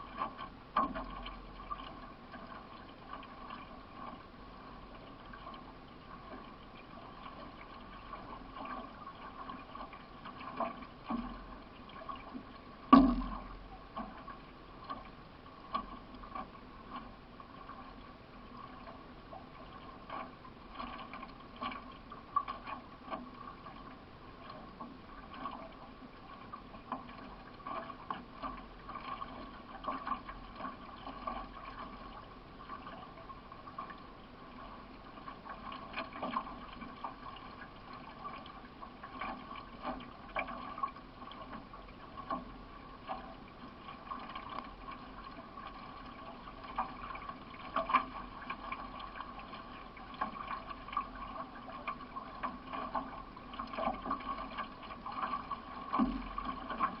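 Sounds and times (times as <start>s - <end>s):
paddle stroke splashes: 0.0s - 57.0s
water running along hull: 0.0s - 57.0s.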